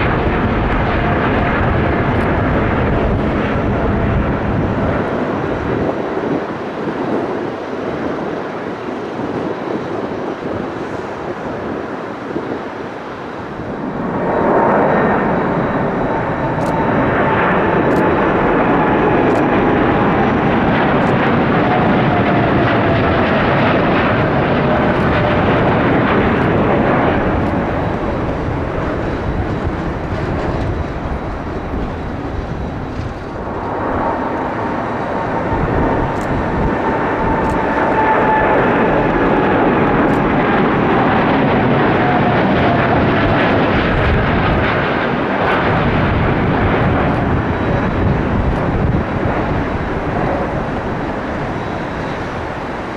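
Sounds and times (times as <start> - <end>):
jet airliner engines roaring: 0.0 - 52.9.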